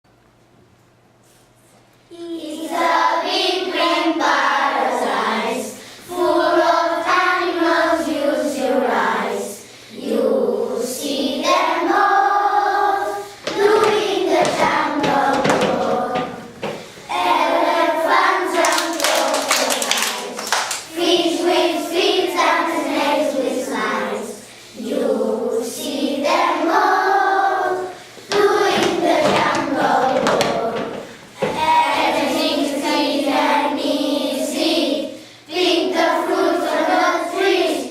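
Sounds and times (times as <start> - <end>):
children singing in unison: 2.5 - 37.9.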